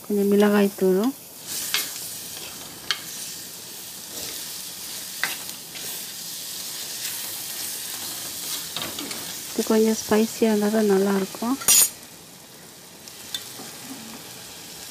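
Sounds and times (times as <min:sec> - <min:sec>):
vegetables sizzling in oil: 0:00.0 - 0:14.9.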